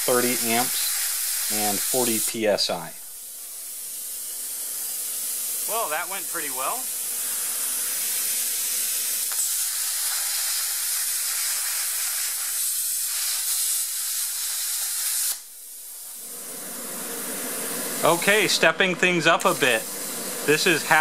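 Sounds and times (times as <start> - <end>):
plasma cutter hissing: 0.0 - 21.0
soft hiss: 0.0 - 21.0.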